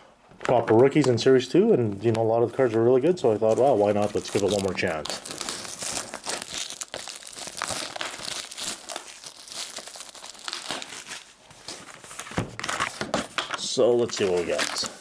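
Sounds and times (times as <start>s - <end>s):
plastic wrap crinkling and tearing: 0.4s - 15.0s.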